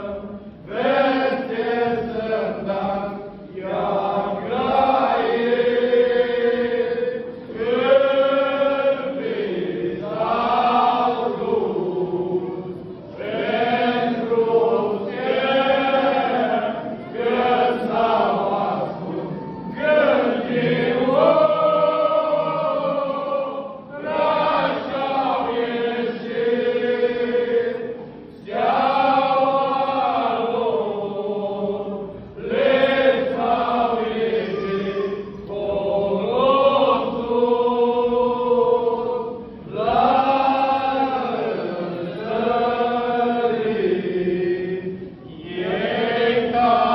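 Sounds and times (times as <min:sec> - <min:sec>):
men singing a cappella: 0:00.0 - 0:12.6, 0:13.2 - 0:46.9.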